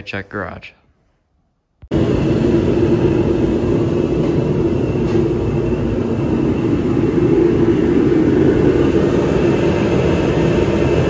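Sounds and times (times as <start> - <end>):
forced-air heater roaring: 1.8 - 11.0.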